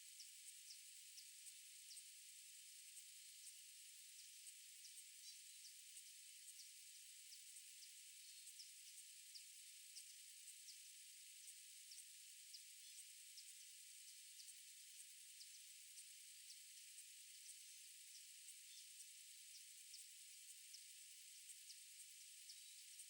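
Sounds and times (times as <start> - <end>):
light irregular ticks: 4.2 - 23.0.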